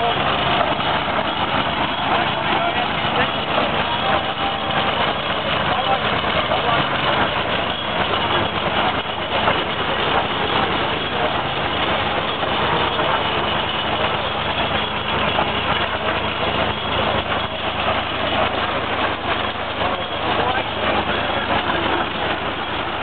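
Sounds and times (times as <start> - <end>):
old car engine running steadily: 0.0 - 23.0.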